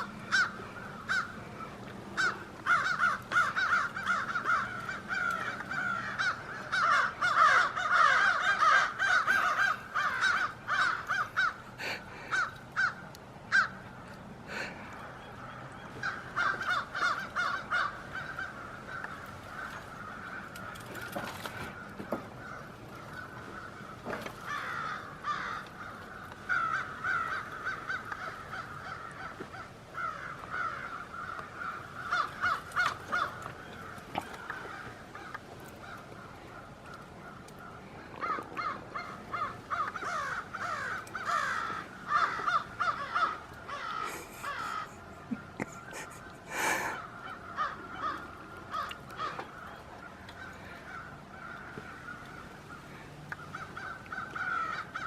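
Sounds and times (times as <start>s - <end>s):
flock of birds calling harshly: 0.0s - 55.0s.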